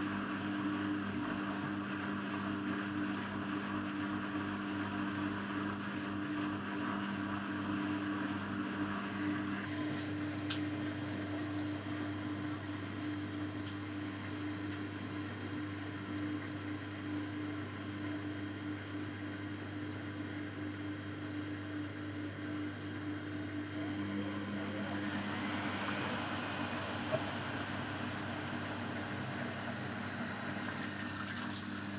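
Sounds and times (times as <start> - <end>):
washing machine spinning: 0.0 - 19.1, 21.2 - 31.9.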